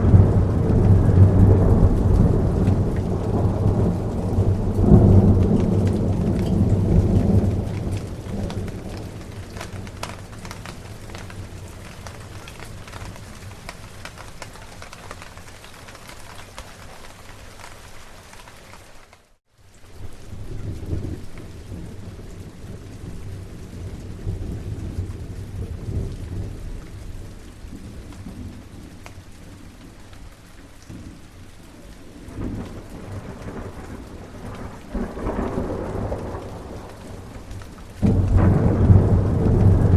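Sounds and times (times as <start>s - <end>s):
low rolling thunder: 0.0s - 15.5s, 20.0s - 30.0s, 30.9s - 39.9s
steady rain: 0.0s - 39.9s.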